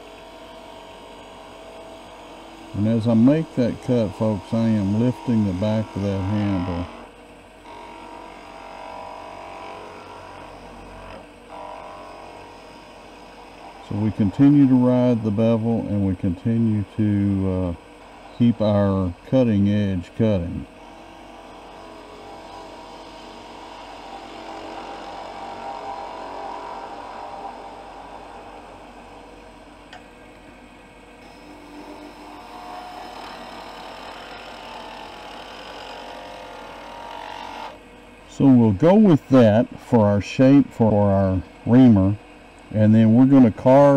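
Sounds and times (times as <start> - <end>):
gouge cutting spinning wood: 0.0 - 30.0, 31.2 - 40.2
wood lathe humming: 0.0 - 43.9.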